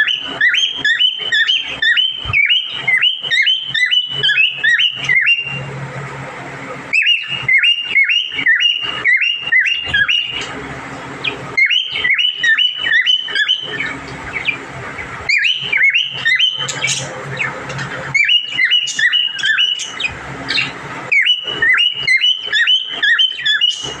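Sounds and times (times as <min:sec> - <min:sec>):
parrots chirping: 0:00.0 - 0:05.7, 0:06.9 - 0:24.0.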